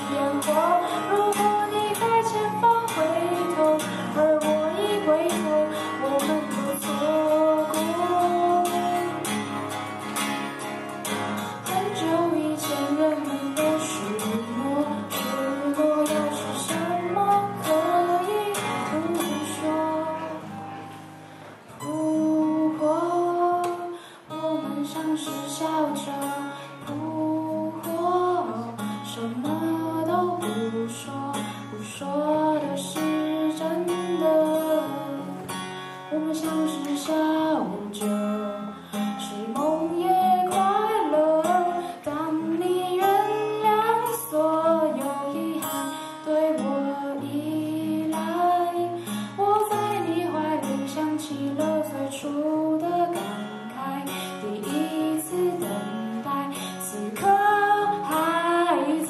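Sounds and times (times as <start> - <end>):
acoustic guitar: 0.0 - 59.0
woman singing into a microphone: 0.0 - 59.0.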